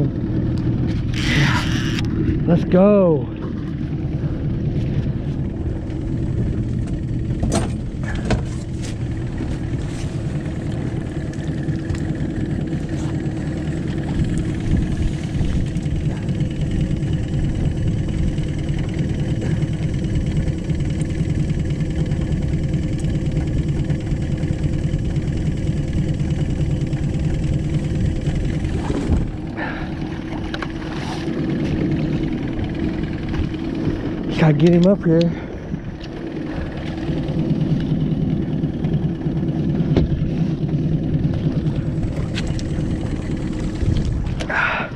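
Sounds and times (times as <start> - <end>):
boat motor running: 0.0 - 44.9.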